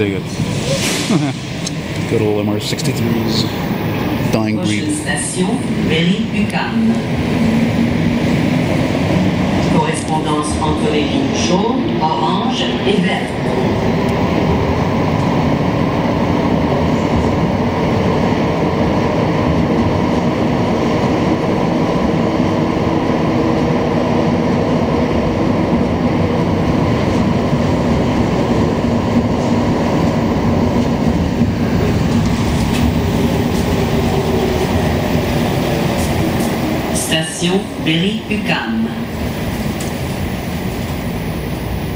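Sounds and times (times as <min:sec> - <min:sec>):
metro train rumbling in tunnel: 0:00.0 - 0:41.9.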